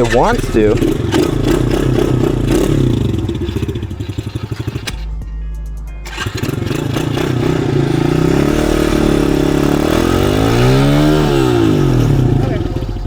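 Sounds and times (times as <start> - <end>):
dirt bike engine revving: 0.0 - 5.3, 6.0 - 13.0.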